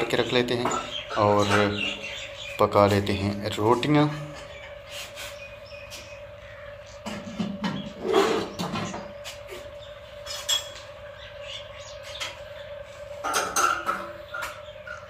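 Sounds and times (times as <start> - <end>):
birds chirping: 0.0 - 15.0
faint steady hum: 0.0 - 15.0.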